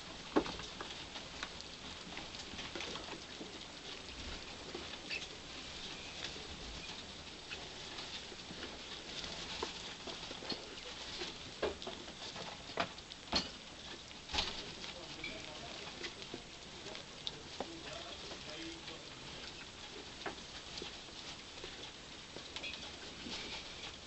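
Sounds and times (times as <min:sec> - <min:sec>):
rats feeding from a bowl: 0:00.0 - 0:24.0
rustling in wood shavings: 0:00.0 - 0:24.0.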